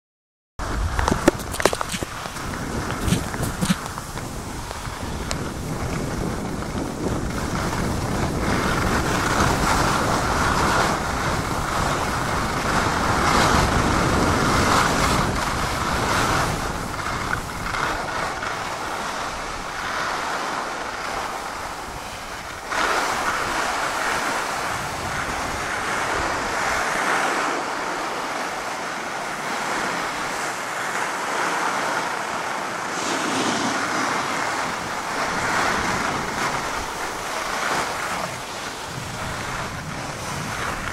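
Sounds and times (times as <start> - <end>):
snowboard sliding over snow: 0.6 - 40.9
wind buffeting microphone: 0.6 - 40.9.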